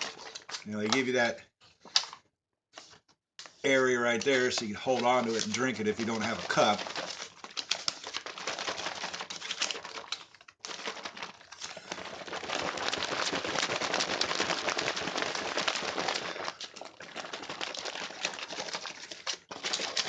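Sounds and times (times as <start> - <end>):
plastic pouch shaken crinkling: 0.0 - 2.1, 4.0 - 20.0.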